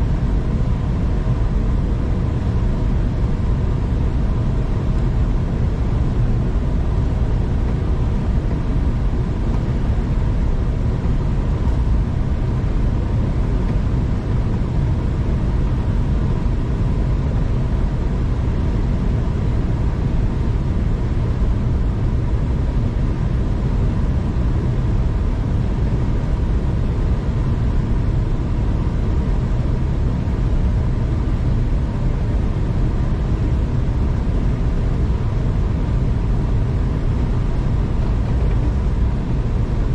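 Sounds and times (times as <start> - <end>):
faint steady whine: 0.0 - 39.9
train rumble inside carriage: 0.0 - 39.9.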